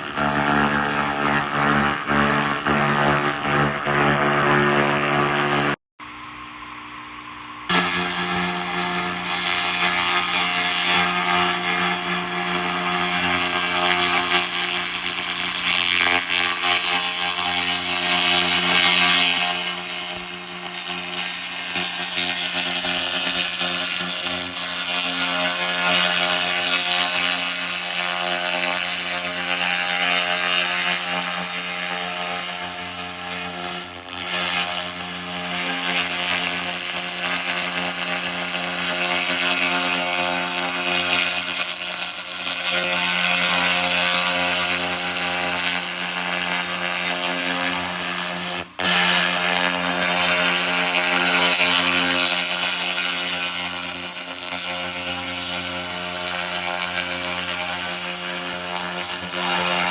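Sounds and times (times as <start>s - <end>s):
laser rust remover buzzing hum: 0.0s - 59.9s.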